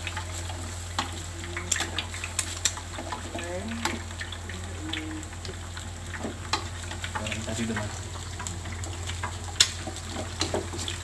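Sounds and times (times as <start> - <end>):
hot oil sizzling and popping: 0.0 - 11.0.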